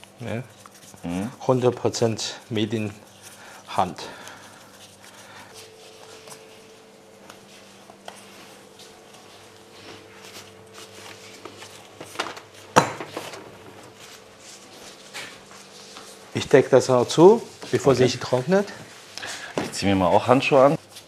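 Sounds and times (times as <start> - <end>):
dough being kneaded and rolled: 0.0 - 21.0.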